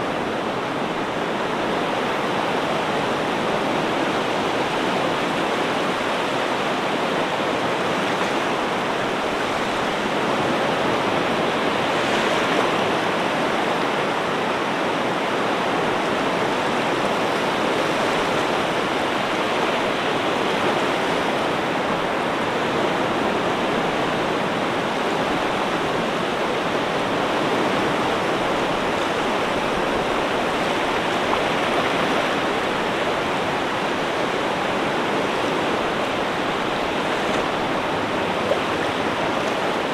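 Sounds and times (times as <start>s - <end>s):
ocean surf rushing: 0.0s - 39.9s.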